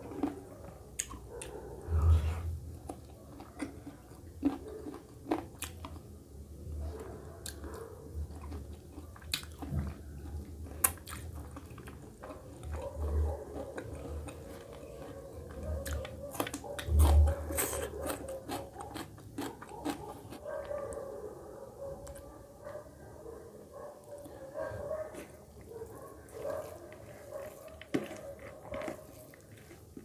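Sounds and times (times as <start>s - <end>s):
person chewing food: 0.0s - 6.2s, 6.8s - 20.9s, 24.0s - 30.0s.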